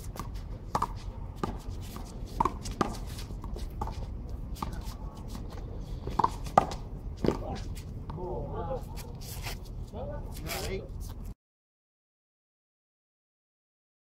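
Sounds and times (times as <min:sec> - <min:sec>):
sneakers scuffing on concrete: 0:00.0 - 0:11.4.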